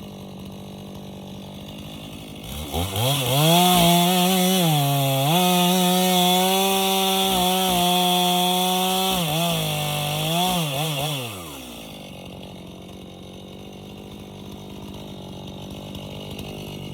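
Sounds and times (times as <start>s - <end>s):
chainsaw running: 0.0s - 16.9s.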